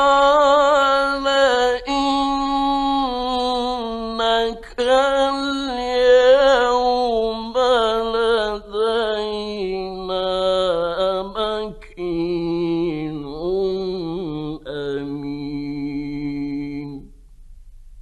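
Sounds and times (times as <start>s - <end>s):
man chanting melodically: 0.0s - 17.2s.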